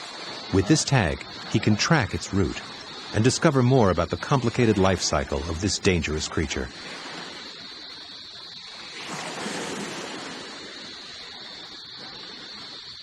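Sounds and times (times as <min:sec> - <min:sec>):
sea waves washing: 0:00.0 - 0:13.0
steady high hiss: 0:00.0 - 0:13.0.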